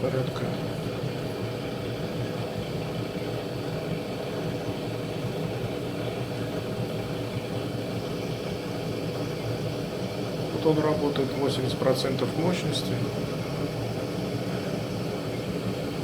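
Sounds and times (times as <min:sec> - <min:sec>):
gas boiler burner and fan: 0:00.0 - 0:16.0.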